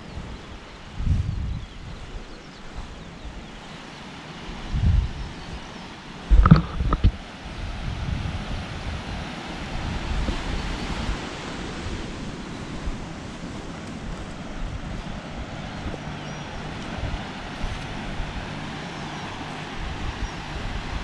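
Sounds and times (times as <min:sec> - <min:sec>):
wind buffeting microphone: 0:00.0 - 0:03.8, 0:04.4 - 0:21.0
sea surf rushing: 0:02.8 - 0:21.0.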